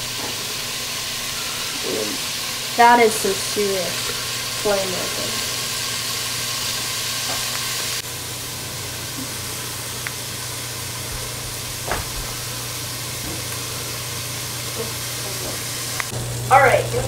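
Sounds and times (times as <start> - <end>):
vegetables sizzling in a pot: 0.0 - 17.0.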